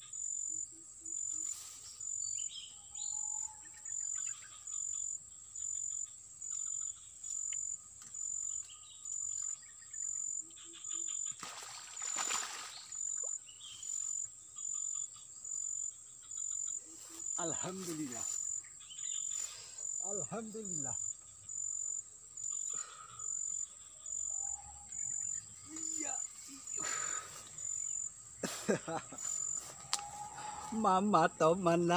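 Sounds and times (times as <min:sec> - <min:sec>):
insect chirping: 0:00.0 - 0:31.9.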